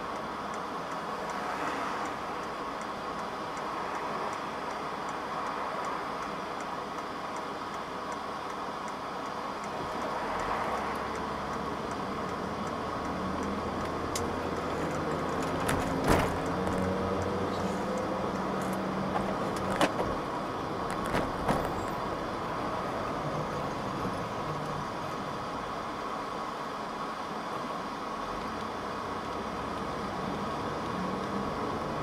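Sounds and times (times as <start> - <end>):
car engine idling and pulling away: 0.0 - 32.0.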